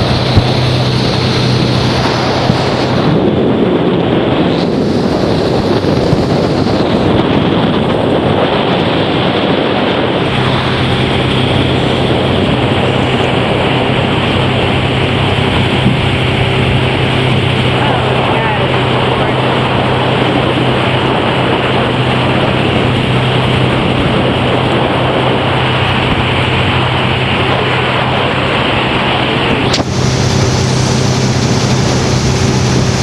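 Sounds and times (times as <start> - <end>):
motorboat engine hum: 0.0 - 33.0
rushing water: 0.0 - 33.0
wind buffeting microphone: 0.0 - 33.0.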